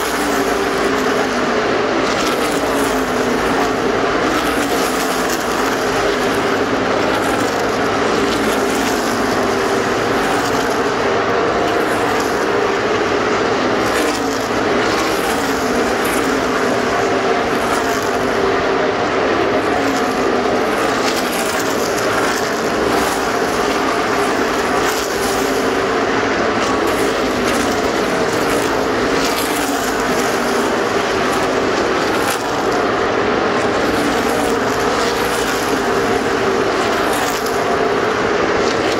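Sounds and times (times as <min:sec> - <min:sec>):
race cars passing at full speed: 0:00.0 - 0:38.9.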